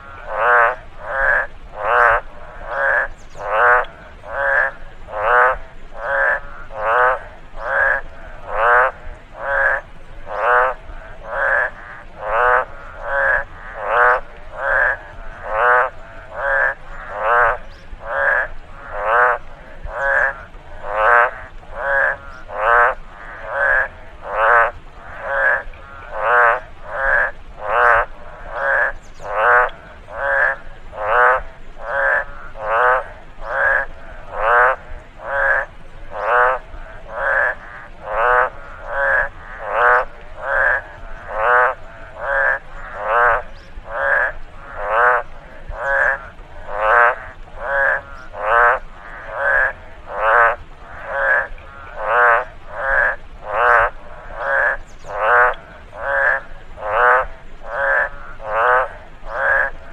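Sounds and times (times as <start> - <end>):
frog croaking: 0.0 - 59.9.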